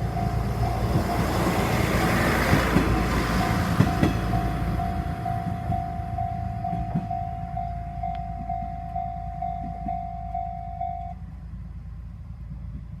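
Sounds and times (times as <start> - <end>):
level crossing warning bell ringing: 0.0 - 2.4, 3.2 - 11.2
diesel railcar rumbling: 0.0 - 13.0.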